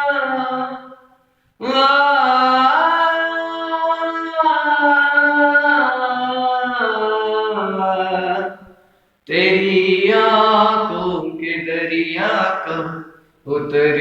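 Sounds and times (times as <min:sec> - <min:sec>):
person singing long wordless notes: 0:00.0 - 0:14.0.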